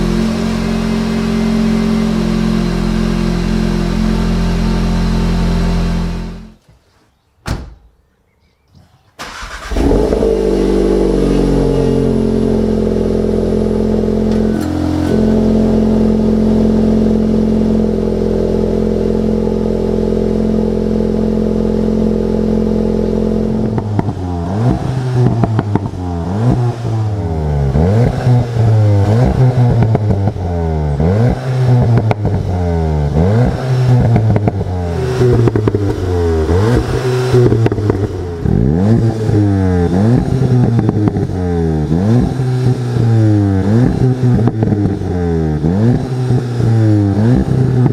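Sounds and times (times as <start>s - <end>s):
car engine starting and idling: 0.0s - 6.6s, 9.2s - 47.9s
engine revving: 0.0s - 6.6s, 9.2s - 47.9s.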